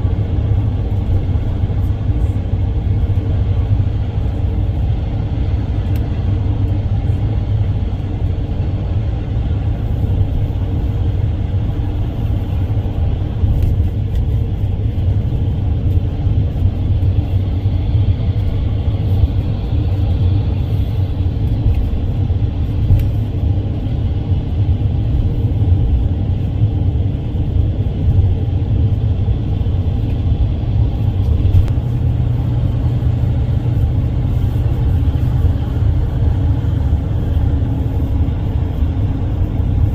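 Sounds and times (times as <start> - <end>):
vehicle engine drone and road rumble: 0.0 - 39.9.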